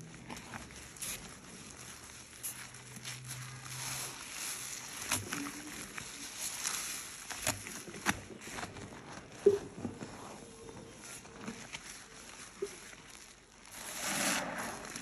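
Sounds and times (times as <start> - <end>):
sponge squelching in soapy water: 0.0 - 15.0.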